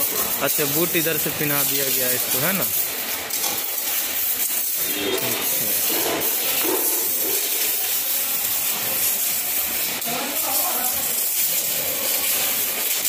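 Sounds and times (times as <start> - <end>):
loud steady hiss: 0.0 - 13.0.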